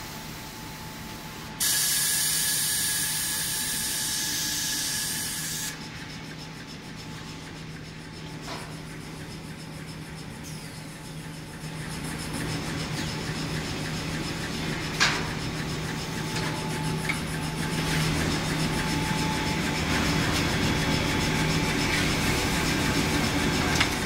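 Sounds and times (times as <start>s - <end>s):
sharp machine clack: 1.6s - 24.0s
machine hum: 2.3s - 24.0s.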